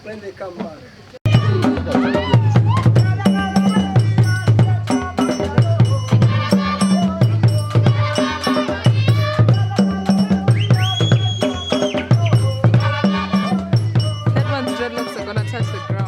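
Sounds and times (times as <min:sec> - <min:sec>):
voices singing: 0:00.6 - 0:16.0
drums beating: 0:01.3 - 0:16.0
sharp percussion strikes: 0:01.3 - 0:16.0.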